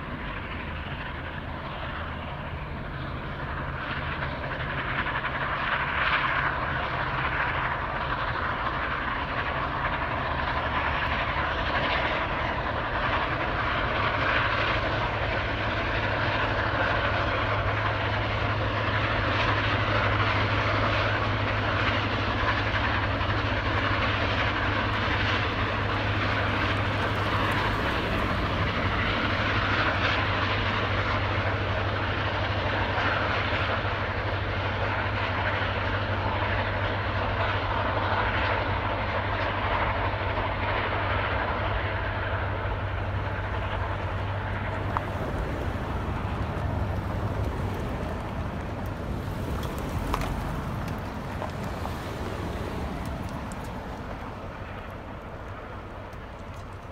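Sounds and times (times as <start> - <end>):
steam locomotives at speed: 0.0 - 56.9.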